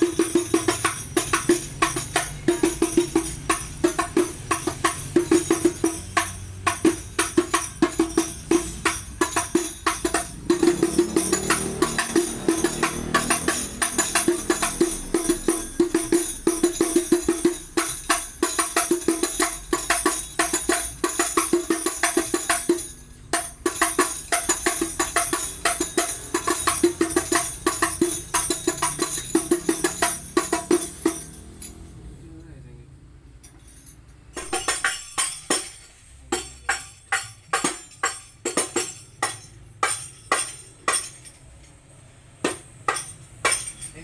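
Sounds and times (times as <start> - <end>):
frame drums hand-played: 0.0 - 31.6, 34.2 - 44.0
metallic jingle: 0.0 - 32.2, 33.3 - 44.0.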